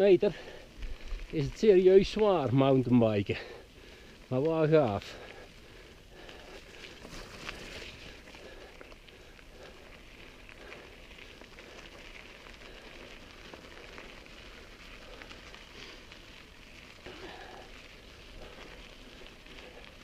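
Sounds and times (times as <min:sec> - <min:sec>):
bike tyres crackling over stones: 0:00.0 - 0:20.0.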